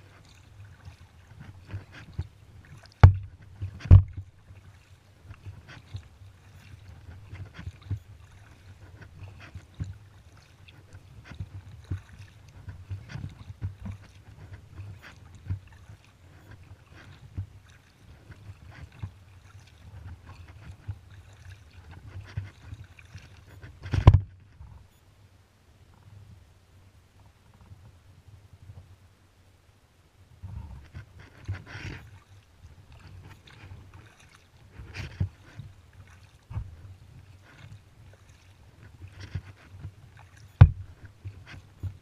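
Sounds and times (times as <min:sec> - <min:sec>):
paddle splashes and drips: 0:00.0 - 0:24.6, 0:30.8 - 0:42.0
water rumbling against hull: 0:00.0 - 0:25.0, 0:30.3 - 0:42.0.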